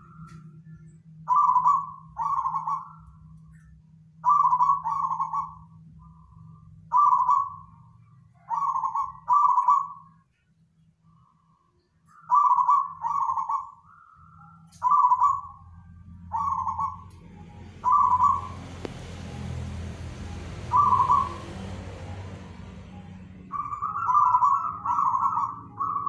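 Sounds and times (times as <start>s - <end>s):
dove cooing: 1.2s - 3.4s, 4.2s - 6.2s, 6.8s - 10.2s, 12.2s - 26.0s.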